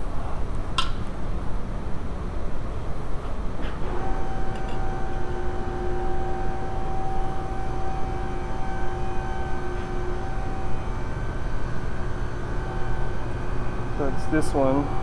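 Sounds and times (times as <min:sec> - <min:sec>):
low mechanical rumble: 0:00.0 - 0:15.0
steady whine: 0:00.0 - 0:15.0.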